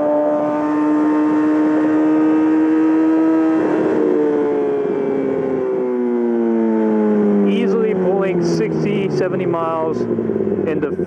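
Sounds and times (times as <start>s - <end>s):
motorcycle engine at high revs: 0.0s - 11.0s.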